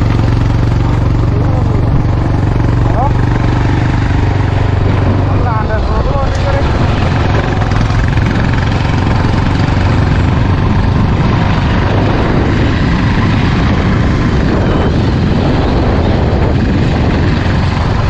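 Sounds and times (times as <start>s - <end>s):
motorcycle engine running: 0.0s - 18.0s
wind rushing on microphone: 0.0s - 18.0s.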